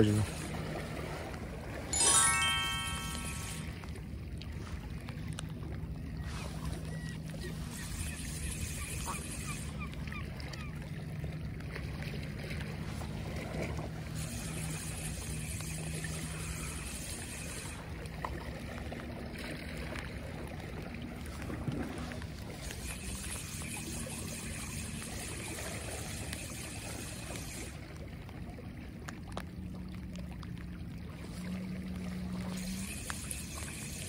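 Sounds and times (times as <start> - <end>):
sea water lapping: 0.0 - 34.0
wind: 0.0 - 34.0
distant boat engine humming: 3.1 - 34.0.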